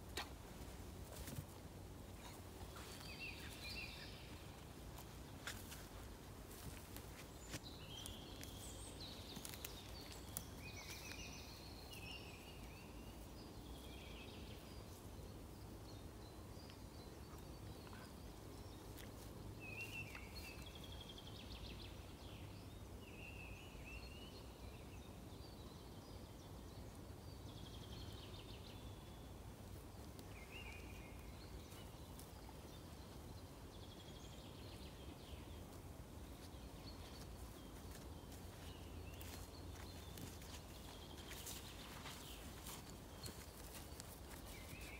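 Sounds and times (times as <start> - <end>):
songbirds calling and trilling: 0.0 - 44.9.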